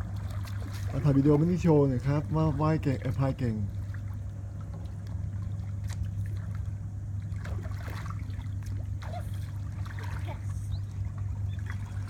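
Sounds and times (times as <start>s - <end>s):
paddle dipping in water: 0.0s - 12.0s
steady low hum: 0.0s - 12.0s.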